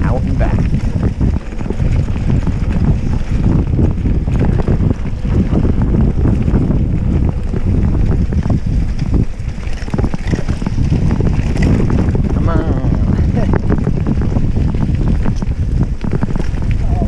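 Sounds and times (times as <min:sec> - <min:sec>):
bike rattling and knocking: 0:00.0 - 0:17.0
tyres rumbling over dirt: 0:00.0 - 0:17.0
wind blasting the microphone: 0:00.0 - 0:17.0.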